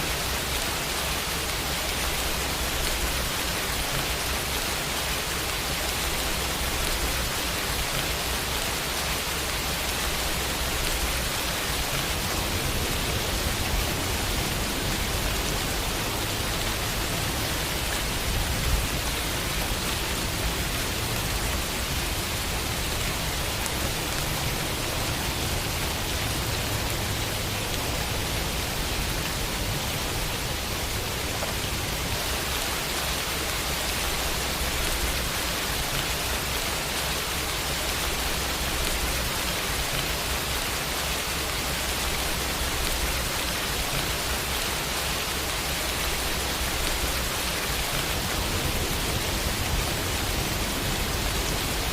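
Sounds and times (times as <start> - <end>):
rain against a window: 0.0 - 51.9.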